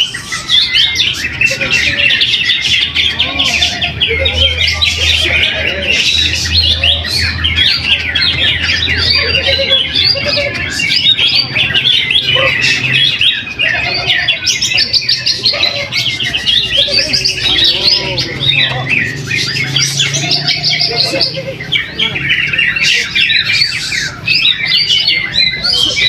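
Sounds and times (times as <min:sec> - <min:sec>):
caged birds singing chirps: 0:00.0 - 0:26.0.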